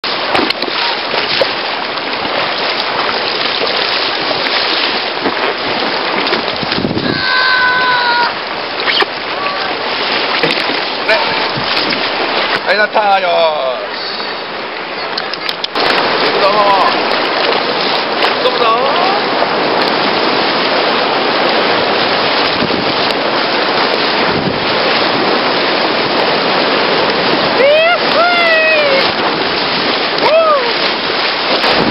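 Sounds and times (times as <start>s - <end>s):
whitewater rushing: 0.0s - 31.9s.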